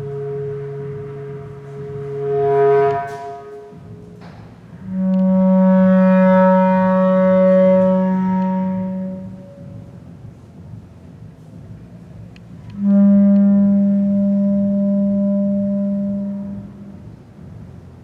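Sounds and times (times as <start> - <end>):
bass clarinet long tones: 0.0 - 18.0.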